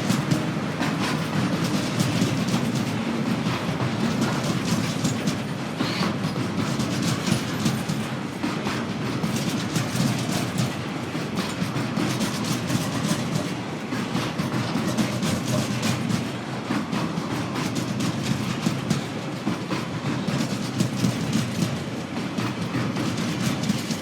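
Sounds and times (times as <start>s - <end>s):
freight train rumbling: 0.0s - 24.0s
train wheels clickety-clack: 0.0s - 24.0s.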